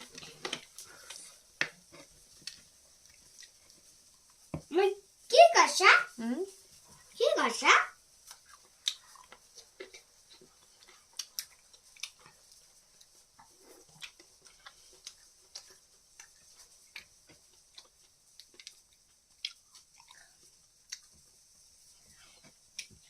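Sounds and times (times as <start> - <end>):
people eating with mouth clicks: 0.0 - 4.7, 8.0 - 23.0.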